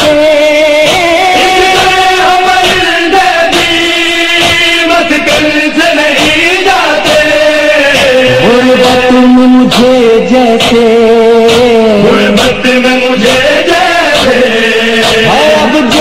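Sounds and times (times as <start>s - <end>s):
wordless mourning singing: 0.0s - 16.0s.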